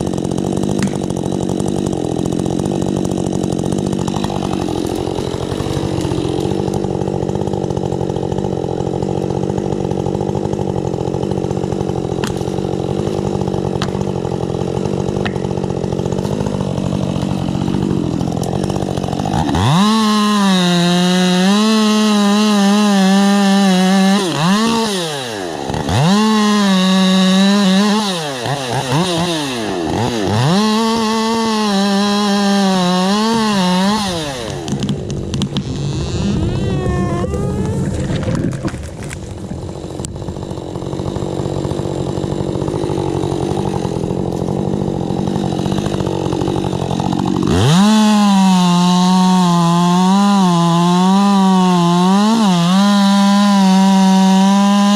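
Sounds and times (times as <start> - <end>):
chainsaw running: 0.0 - 54.9.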